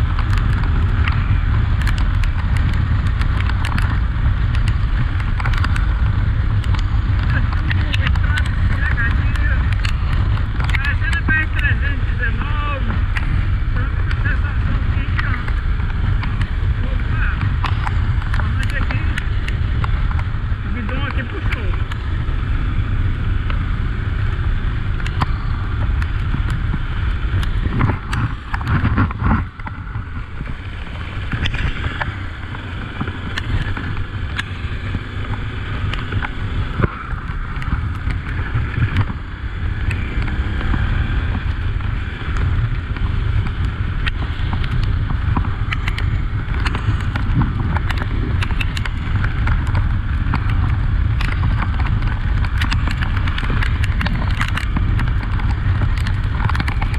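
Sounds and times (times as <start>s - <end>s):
motorcycle engine rumbling: 0.0s - 56.9s
sharp ticks: 0.0s - 56.9s
wind on microphone: 0.0s - 56.9s.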